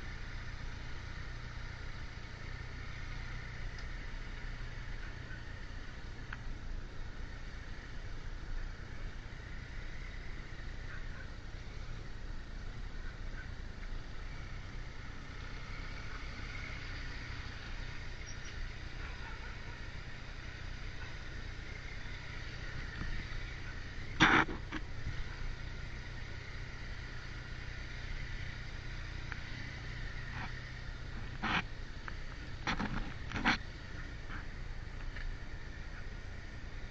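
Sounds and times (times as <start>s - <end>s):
motorcycle engine running: 0.0s - 36.9s
road and wind noise: 0.0s - 36.9s.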